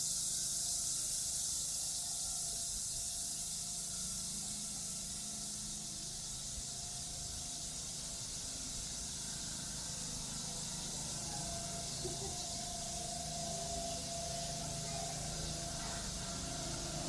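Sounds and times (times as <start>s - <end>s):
faint steady tone: 0.0s - 17.0s
high-pitched hiss: 0.0s - 17.0s.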